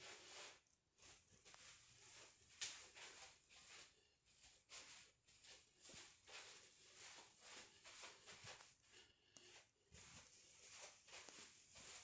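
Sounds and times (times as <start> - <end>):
footsteps on carpet: 0.0 - 12.0.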